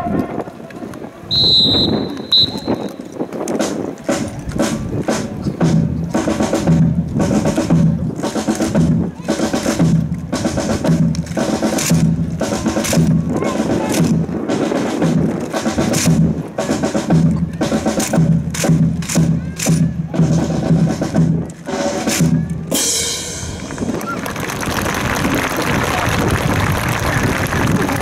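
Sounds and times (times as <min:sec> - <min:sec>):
crowd murmur: 0:00.0 - 0:28.0
military drum cadence: 0:01.3 - 0:24.1.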